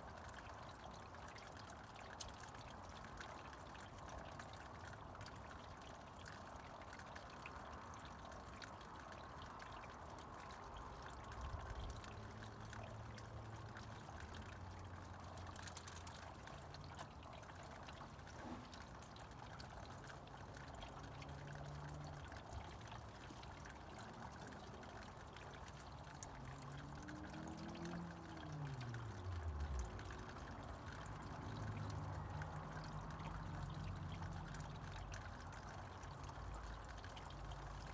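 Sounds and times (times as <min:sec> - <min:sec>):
water trickling and pouring: 0:00.0 - 0:37.9.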